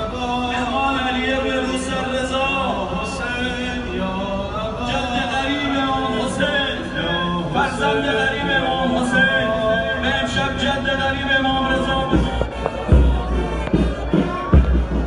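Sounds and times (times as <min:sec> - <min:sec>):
voices singing a lament: 0:00.0 - 0:14.5.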